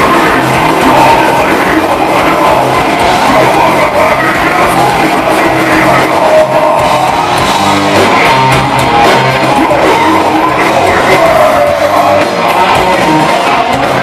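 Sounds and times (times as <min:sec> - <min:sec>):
death metal band playing live: 0:00.0 - 0:14.0
distorted electric guitar: 0:00.0 - 0:14.0.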